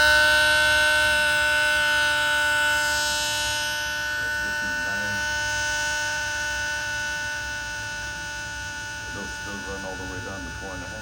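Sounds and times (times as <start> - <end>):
electronic siren tone: 0.0 - 11.0.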